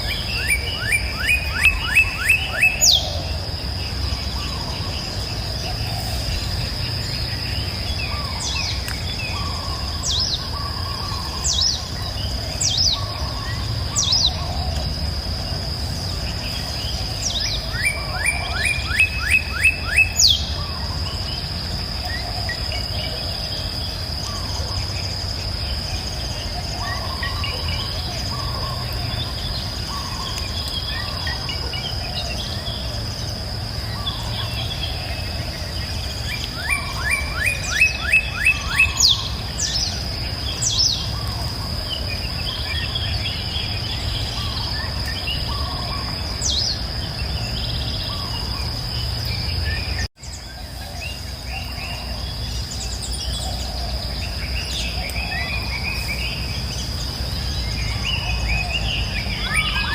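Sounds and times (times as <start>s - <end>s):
birds chirping and singing: 0.0s - 59.9s
high insect drone: 0.0s - 59.9s.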